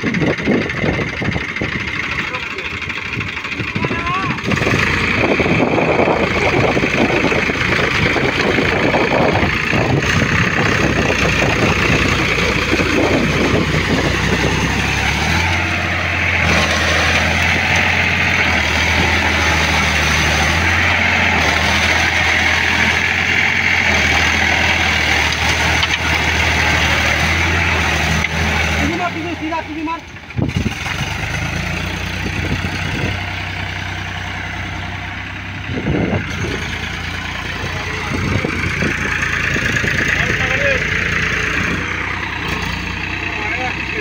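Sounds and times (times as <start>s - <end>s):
tractor diesel engine running hard: 0.0s - 44.0s.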